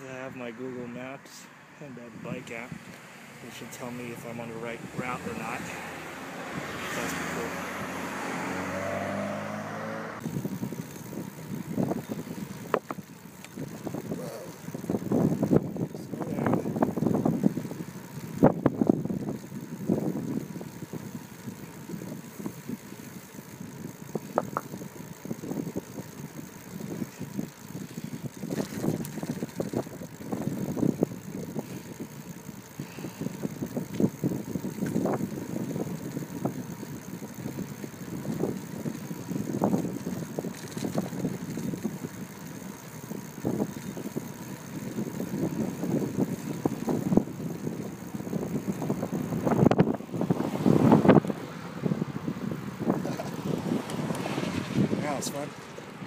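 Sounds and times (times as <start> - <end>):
bicycle clicks and rattles: 10.2 - 55.9
wind buffeting microphone: 10.2 - 56.0.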